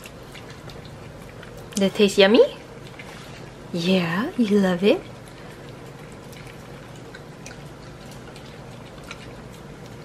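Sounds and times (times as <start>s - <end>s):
dogs licking: 0.0s - 10.0s.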